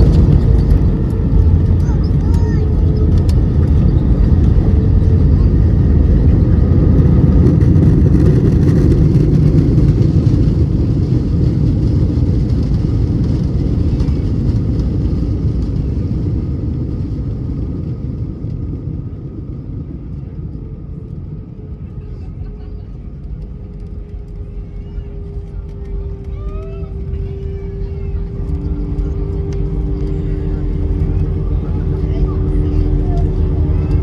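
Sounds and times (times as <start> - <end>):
jet engines rumbling during landing: 0.0 - 34.0.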